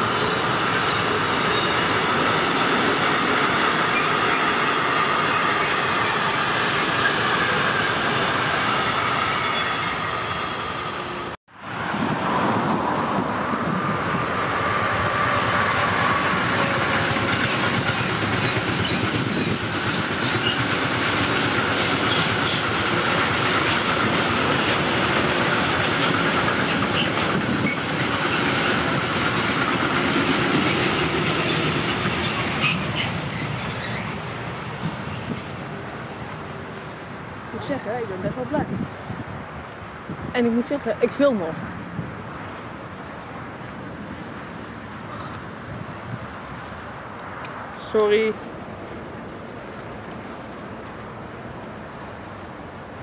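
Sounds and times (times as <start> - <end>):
train wheels on rail: 0.0 - 53.0.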